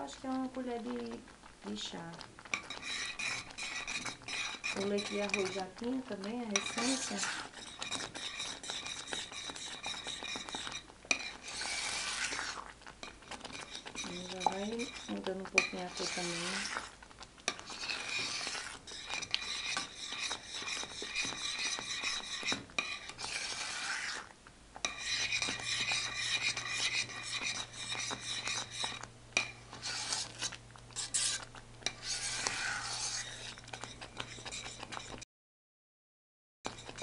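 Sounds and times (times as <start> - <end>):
metal spoon scraping a pan: 1.7 - 35.2, 36.7 - 37.0.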